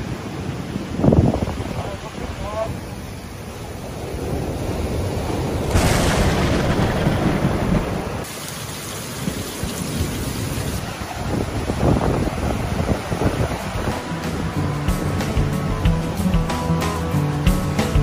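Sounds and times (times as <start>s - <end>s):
wind rumbling on microphone: 0.0s - 8.3s, 9.2s - 16.2s
waves breaking on beach: 0.0s - 16.3s.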